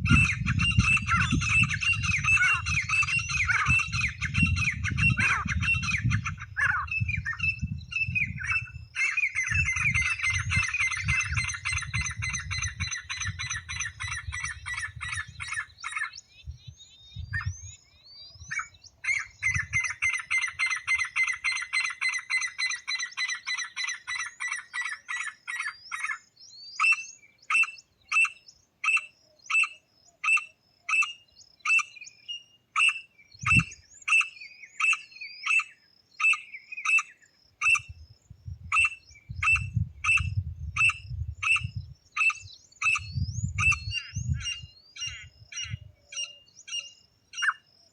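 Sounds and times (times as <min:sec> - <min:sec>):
francolin calling: 0:00.0 - 0:47.9.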